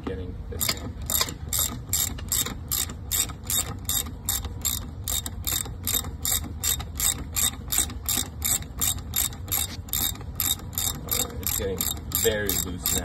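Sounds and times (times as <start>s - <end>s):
ratchet wrench pawl clicking: 0.6s - 13.0s.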